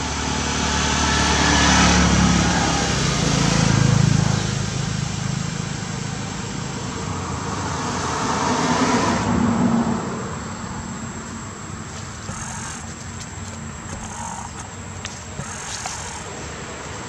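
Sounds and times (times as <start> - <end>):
road vehicle passing: 0.0 - 17.0.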